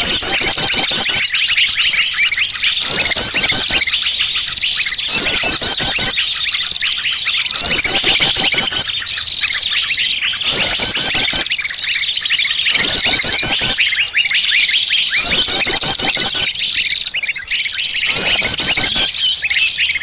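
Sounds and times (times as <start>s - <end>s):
small birds chirping and trilling: 0.0s - 20.0s.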